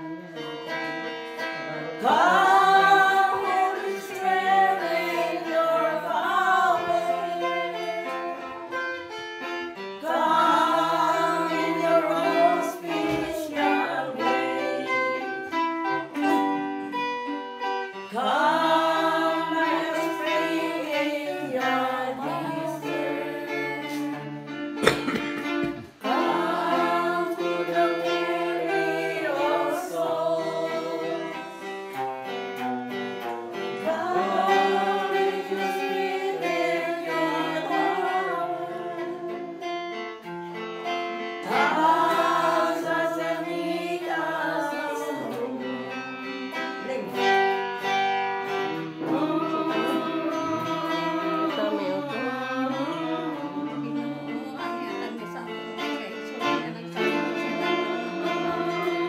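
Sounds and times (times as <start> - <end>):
person singing: 0.0 - 9.1, 9.8 - 32.0, 33.6 - 40.2, 41.4 - 59.0
guitar playing: 0.0 - 59.0.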